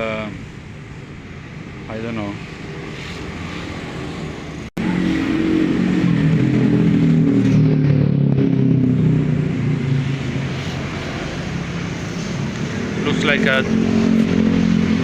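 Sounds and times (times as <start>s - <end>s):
vehicle engine passing by: 2.8s - 15.0s.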